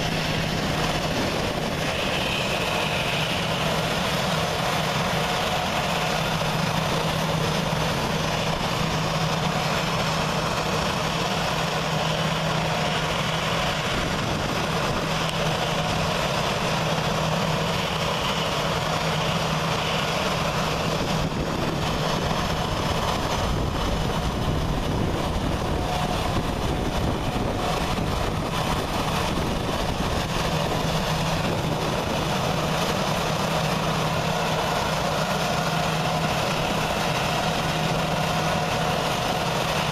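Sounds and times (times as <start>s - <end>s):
jet engines idling: 0.0s - 39.9s.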